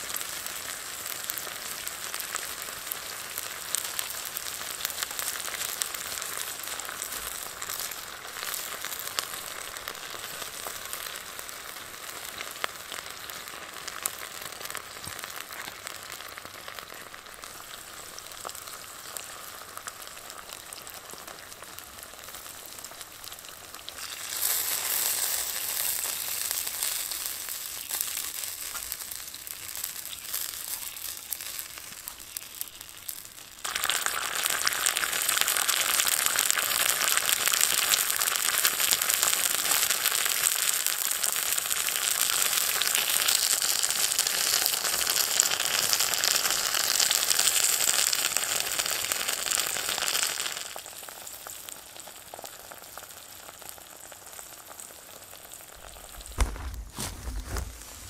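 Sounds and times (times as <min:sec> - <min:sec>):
onions sizzling in a pan: 0:00.0 - 0:58.0.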